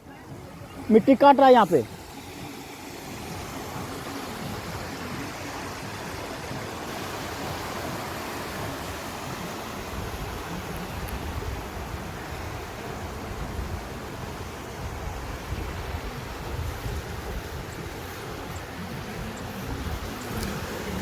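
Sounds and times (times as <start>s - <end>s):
flood river rushing: 0.0s - 21.0s.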